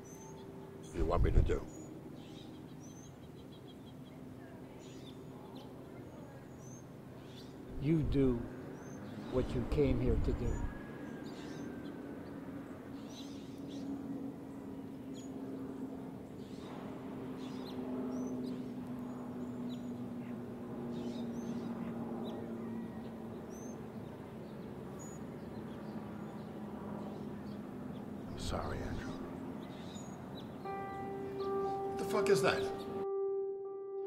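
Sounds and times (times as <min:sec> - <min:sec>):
birds chirping: 0:00.0 - 0:33.1.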